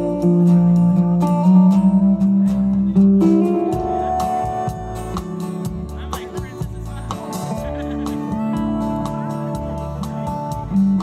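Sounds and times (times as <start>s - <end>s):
live band playing instrumental: 0.0s - 11.0s.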